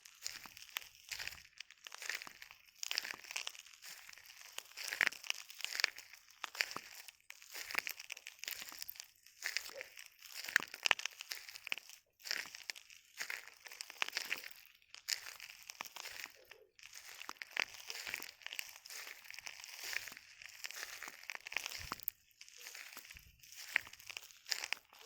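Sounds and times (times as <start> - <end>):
footsteps crunching on shells: 0.0 - 25.0.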